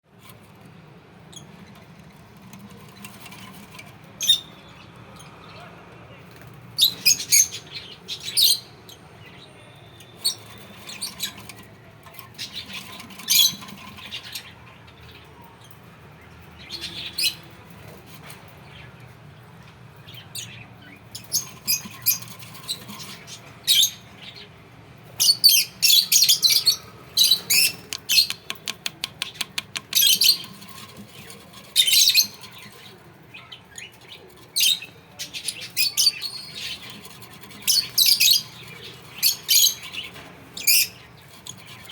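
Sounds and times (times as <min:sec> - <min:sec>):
bird chicks chirping: 0:01.3 - 0:17.9, 0:20.2 - 0:41.9.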